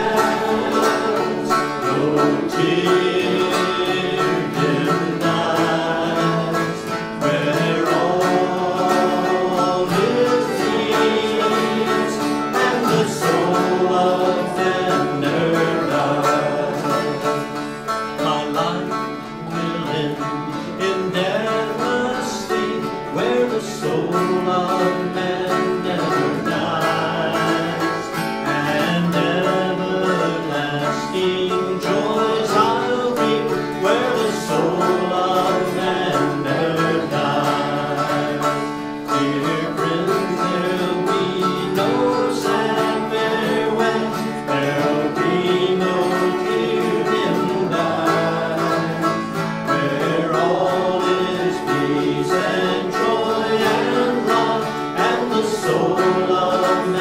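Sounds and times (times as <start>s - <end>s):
acoustic guitar accompaniment: 0.0s - 57.0s
dulcimer plucked melody: 0.0s - 57.0s.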